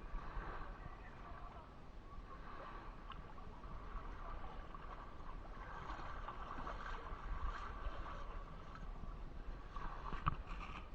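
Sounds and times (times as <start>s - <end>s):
water noise: 0.0s - 10.9s
wind noise: 0.0s - 10.9s.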